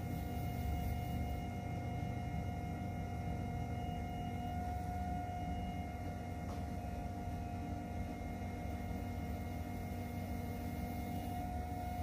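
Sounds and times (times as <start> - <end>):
pottery wheel motor hum: 0.0 - 12.0.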